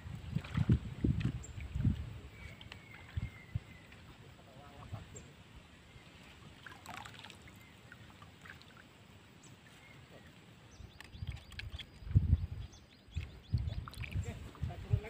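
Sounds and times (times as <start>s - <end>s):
water sloshing and splashing: 0.0s - 5.0s, 6.0s - 12.2s, 13.2s - 15.0s
faint outdoor ambience: 0.0s - 15.0s.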